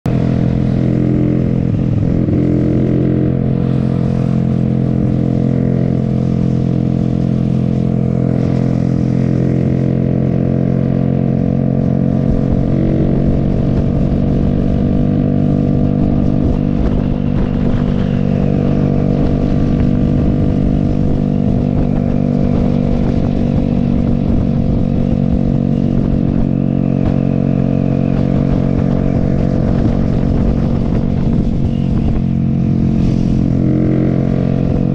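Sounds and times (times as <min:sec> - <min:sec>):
motorcycle engine cruising: 0:00.0 - 0:34.9
wind rumble on microphone: 0:00.0 - 0:34.9.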